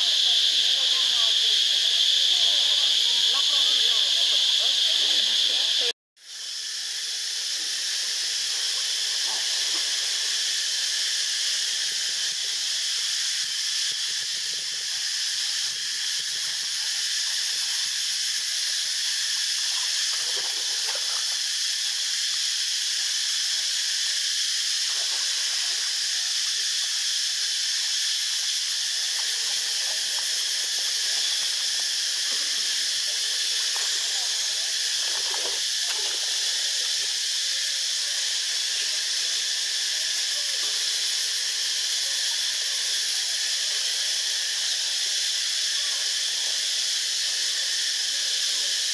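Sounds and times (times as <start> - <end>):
high-pitched hiss: 0.0 - 48.9.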